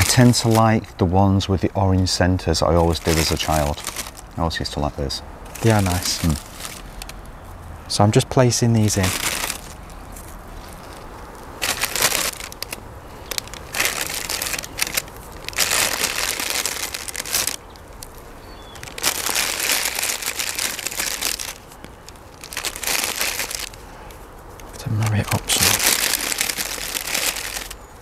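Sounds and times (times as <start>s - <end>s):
plastic bag rustling: 0.0s - 0.7s, 2.8s - 4.4s, 5.4s - 8.2s, 8.8s - 28.0s.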